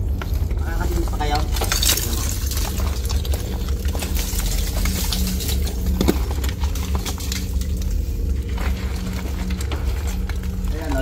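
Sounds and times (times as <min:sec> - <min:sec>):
footsteps on rubble: 0:00.0 - 0:11.0
low rumble: 0:00.0 - 0:11.0.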